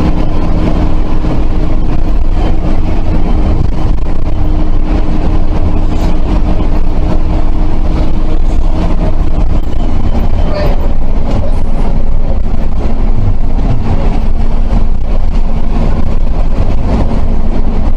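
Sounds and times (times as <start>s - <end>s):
bus diesel engine rumbling: 0.0s - 17.9s
road noise: 0.0s - 17.9s.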